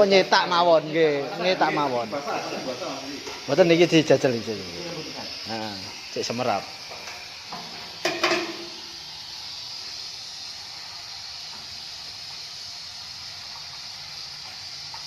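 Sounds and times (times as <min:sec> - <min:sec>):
pellet machine hissing and humming: 0:00.0 - 0:15.0.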